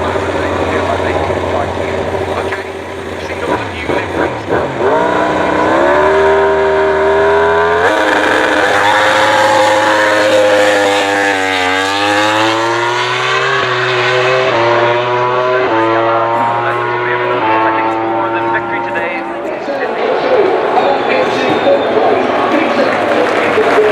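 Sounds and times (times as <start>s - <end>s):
racing motorcycle engine revving: 0.0s - 23.9s.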